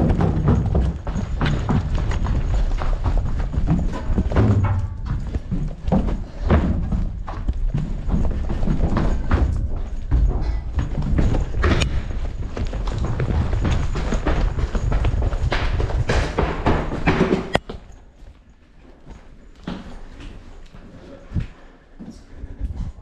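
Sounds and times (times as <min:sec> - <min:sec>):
running footsteps on stairs: 0:00.0 - 0:23.0.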